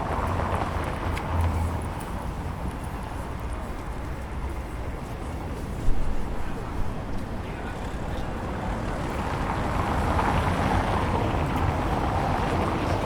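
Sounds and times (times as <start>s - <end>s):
street and crowd noise: 0.0s - 13.0s.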